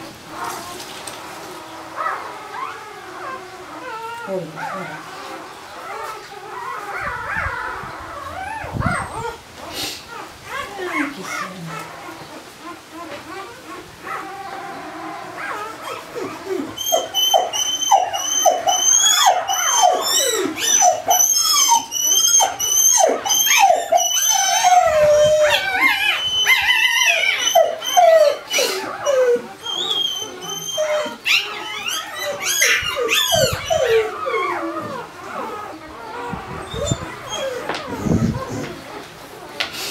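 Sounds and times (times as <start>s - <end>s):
puppy whining: 0.0s - 39.9s
puppy squealing: 0.3s - 39.6s.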